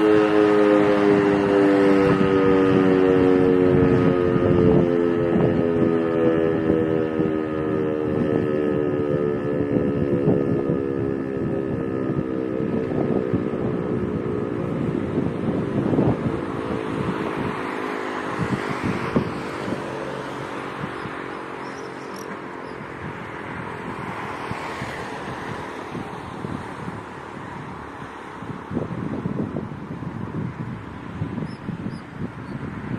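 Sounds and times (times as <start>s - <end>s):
siren steady tone: 0.0s - 32.9s
wind buffeting microphone: 0.0s - 32.9s.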